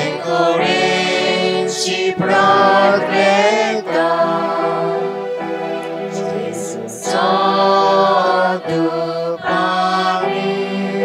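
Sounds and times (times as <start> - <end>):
person singing a hymn: 0.0 - 11.0
sustained accompaniment chords: 0.0 - 11.0.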